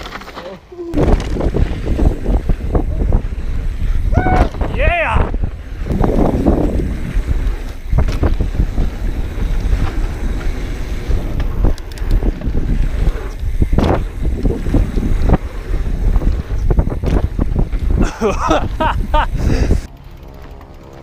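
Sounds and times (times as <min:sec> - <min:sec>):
bike knocks and rattles: 0:00.0 - 0:03.3, 0:04.4 - 0:19.3
wind buffeting microphone: 0:00.9 - 0:19.9.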